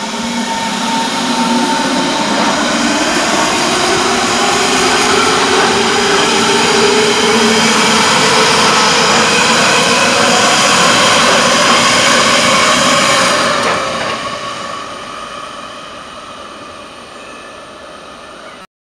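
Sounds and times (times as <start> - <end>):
electric train motors whining: 0.0 - 18.6
wheels on rail: 0.0 - 18.7.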